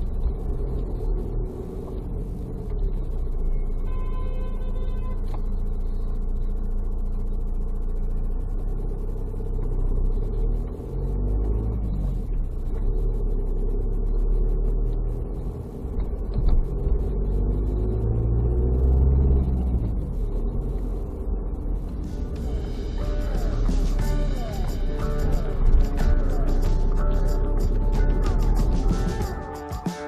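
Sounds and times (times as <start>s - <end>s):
car engine and tyre rumble: 0.0s - 29.4s.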